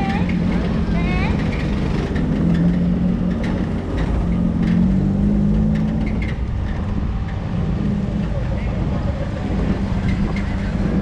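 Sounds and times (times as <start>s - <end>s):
car engine running at low revs: 0.0s - 11.0s
low rumble: 0.0s - 11.0s.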